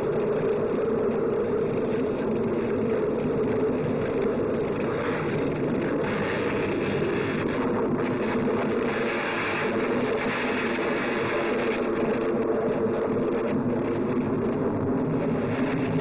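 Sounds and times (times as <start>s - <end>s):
dense rushing noise: 0.0s - 16.0s.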